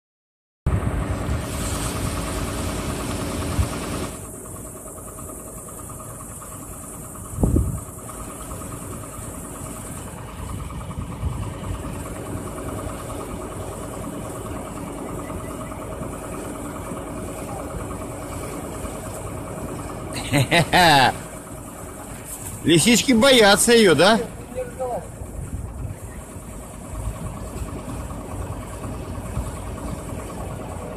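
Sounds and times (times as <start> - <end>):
engine idling: 0.7 - 30.9.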